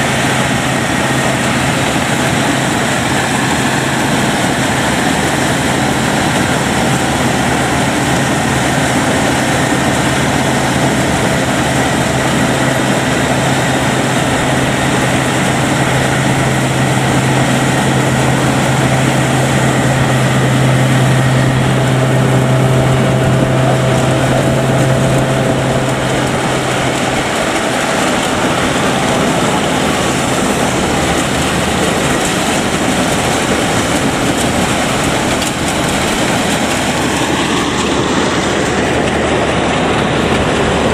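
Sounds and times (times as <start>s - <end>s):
combine harvester running: 0.0s - 40.9s
steady low hum: 0.0s - 40.9s.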